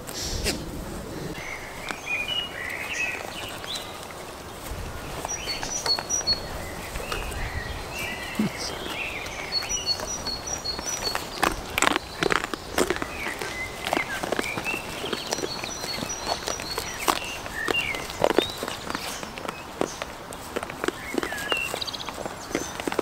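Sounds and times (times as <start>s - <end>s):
outdoor background: 0.0s - 23.0s
wild birds singing: 0.0s - 23.0s.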